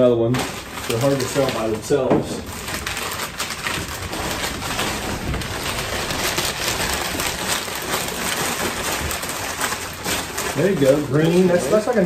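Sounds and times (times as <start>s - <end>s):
packing paper crinkling: 0.0s - 12.0s.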